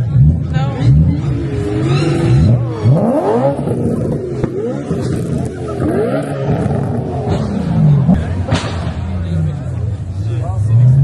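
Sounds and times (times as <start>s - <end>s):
car engine idling: 0.0s - 11.0s
car engine revving: 0.0s - 11.0s.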